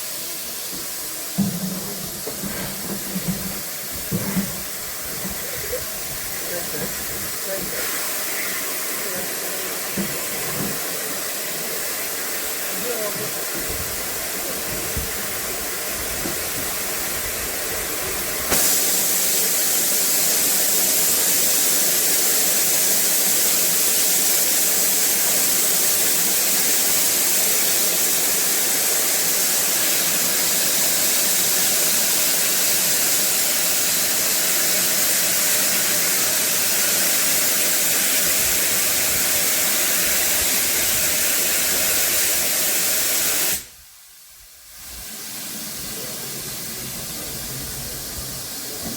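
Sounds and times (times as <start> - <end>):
steam locomotive hissing steam: 0.0 - 48.9.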